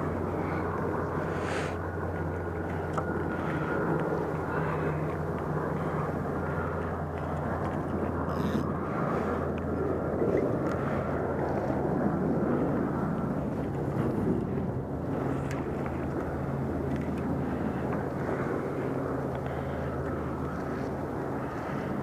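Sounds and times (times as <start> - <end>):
distant engines droning: 0.0 - 22.0.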